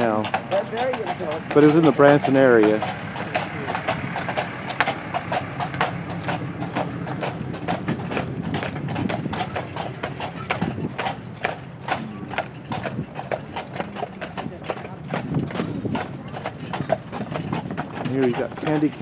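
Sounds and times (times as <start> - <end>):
hooves clip-clopping on pavement: 0.0 - 19.0.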